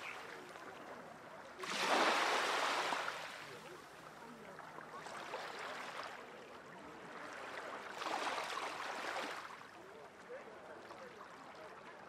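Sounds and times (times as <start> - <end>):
small waves washing ashore: 0.0 - 11.7.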